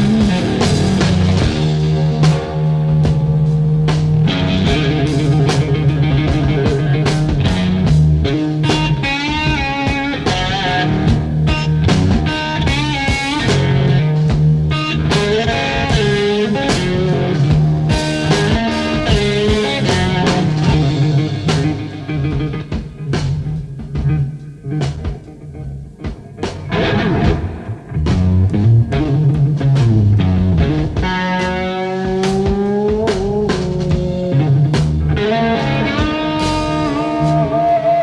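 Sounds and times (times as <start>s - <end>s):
low bass line: 0.0s - 37.6s
blues-rock guitar: 0.0s - 38.0s.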